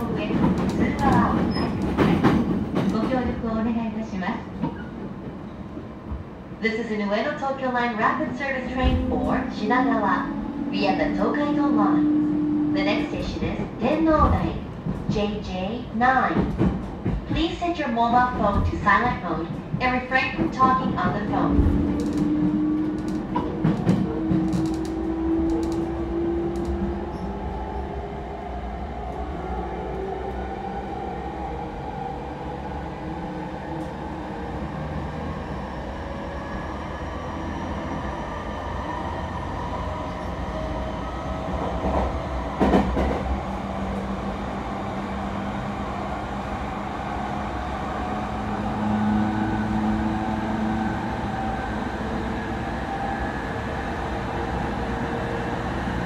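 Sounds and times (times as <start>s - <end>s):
wheel and rail rumble: 7.1s - 56.0s.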